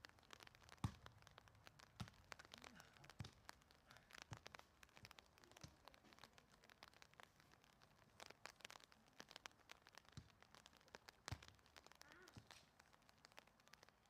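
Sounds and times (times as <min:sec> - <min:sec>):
faint crackling ticks: 0:00.0 - 0:14.0.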